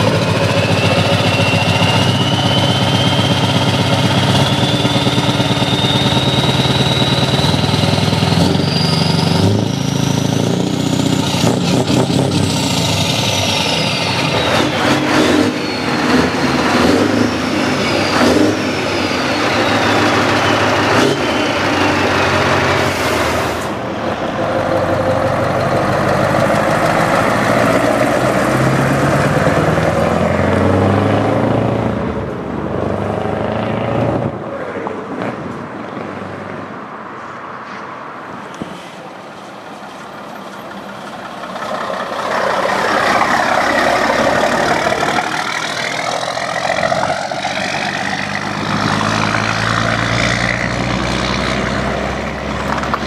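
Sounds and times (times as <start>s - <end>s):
truck accelerating past: 0.0s - 36.5s, 39.6s - 53.0s
truck passing loudly: 0.0s - 53.0s.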